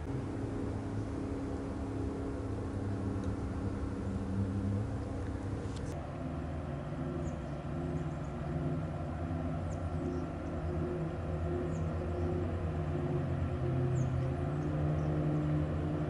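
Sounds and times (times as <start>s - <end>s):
distant ship engine drone: 0.0s - 16.0s.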